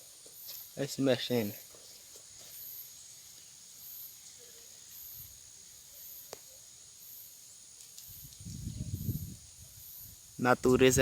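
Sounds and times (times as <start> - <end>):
faint insects buzzing: 0.0 - 11.0.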